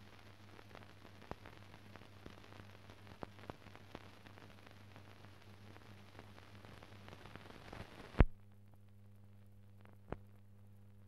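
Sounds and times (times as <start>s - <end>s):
film crackle: 0.0s - 11.0s
film hiss: 0.0s - 11.0s.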